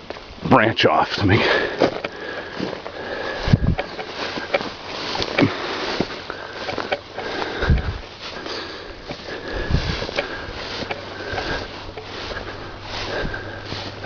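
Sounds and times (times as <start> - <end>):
footsteps on dirt and gravel: 0.0 - 14.0
person breathing and sniffing: 1.4 - 14.0.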